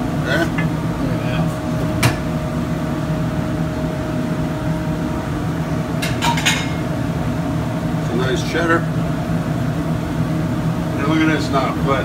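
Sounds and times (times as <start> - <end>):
gas burners: 0.0 - 12.0
kitchen ventilation hum: 0.0 - 12.0.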